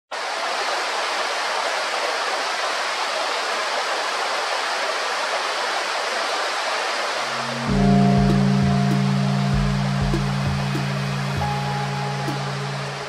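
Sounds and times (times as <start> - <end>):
waterfall rushing over rocks: 0.1 - 13.0.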